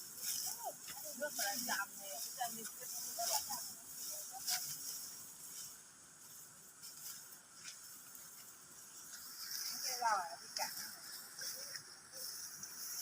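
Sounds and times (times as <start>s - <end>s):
high-pitched outdoor hiss: 0.0s - 13.0s.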